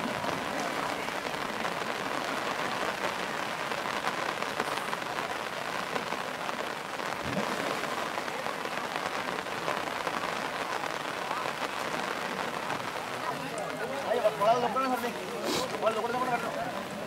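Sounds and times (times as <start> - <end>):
rain falling on shallow water: 0.0 - 17.0.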